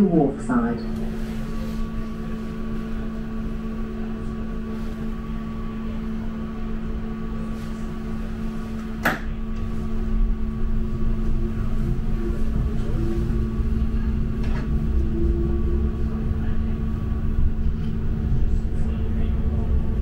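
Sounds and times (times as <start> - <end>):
tram electrical hum: 0.0 - 20.0
tram pulling away rumble: 0.0 - 20.0.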